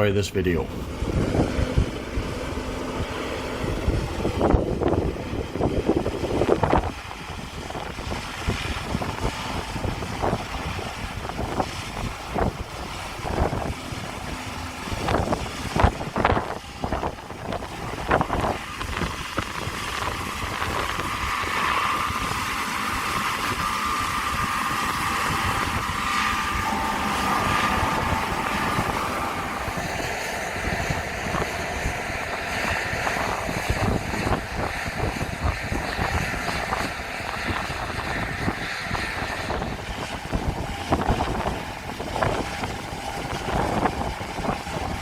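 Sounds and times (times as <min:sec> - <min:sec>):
combine harvesters running: 0:00.0 - 0:45.0
steady machine whine: 0:00.0 - 0:45.0
wind buffeting microphone: 0:00.0 - 0:45.0.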